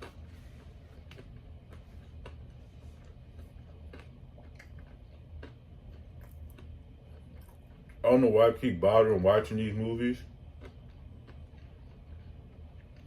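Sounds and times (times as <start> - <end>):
chewing with mouth clicks: 0.0 - 8.1, 10.1 - 13.0
steady low hum: 0.0 - 13.0.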